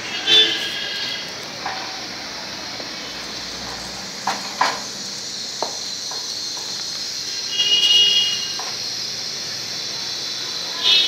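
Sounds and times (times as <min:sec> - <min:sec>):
gas hissing: 0:00.0 - 0:11.0.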